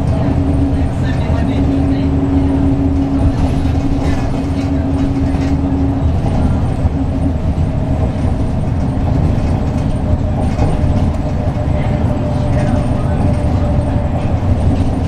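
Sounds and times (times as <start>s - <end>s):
bus diesel engine rumble: 0.0s - 15.0s
road noise: 0.0s - 15.0s.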